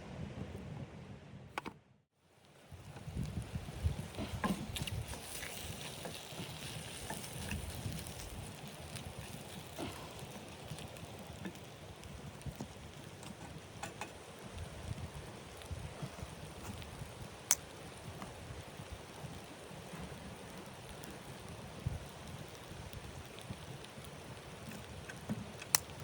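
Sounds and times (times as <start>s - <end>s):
wood fire crackling: 2.3s - 26.0s.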